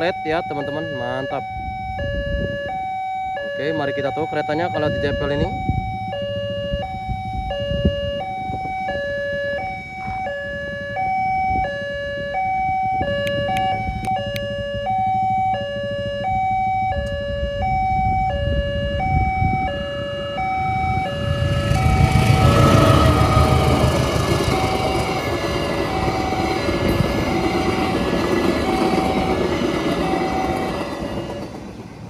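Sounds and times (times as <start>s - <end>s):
level crossing two-tone siren: 0.0s - 31.8s
approaching train rumble: 4.7s - 32.0s.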